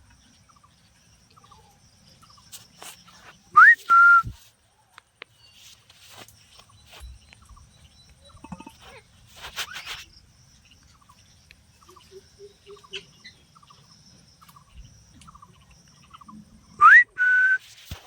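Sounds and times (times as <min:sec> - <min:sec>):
faint chirps and clicks: 0:00.0 - 0:16.9.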